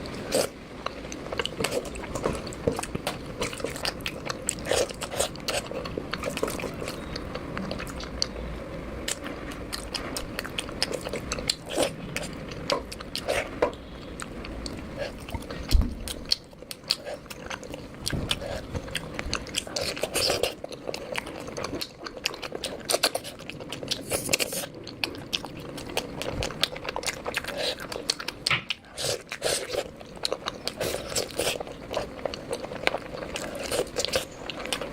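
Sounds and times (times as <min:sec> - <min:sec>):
person chewing: 0:00.0 - 0:08.4, 0:09.0 - 0:34.9.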